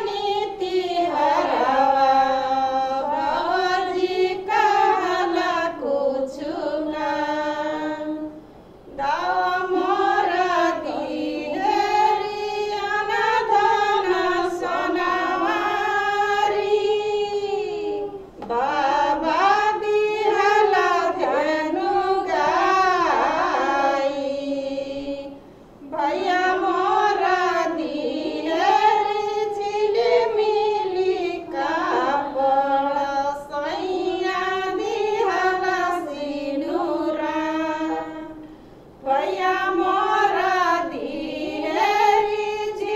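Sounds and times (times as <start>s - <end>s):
woman singing: 0.0s - 8.4s, 9.0s - 42.9s.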